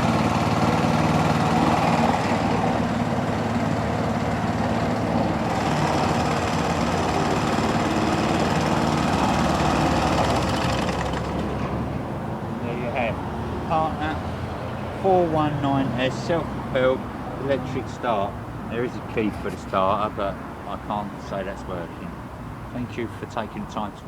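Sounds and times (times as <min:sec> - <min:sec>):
lawnmower engine running: 0:00.0 - 0:24.0.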